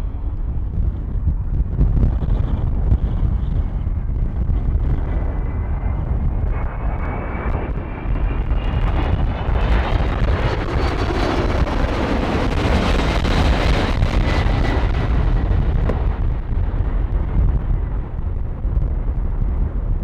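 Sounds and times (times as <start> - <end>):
jet airliner passing: 0.0 - 20.0
wind buffeting microphone: 0.0 - 20.0.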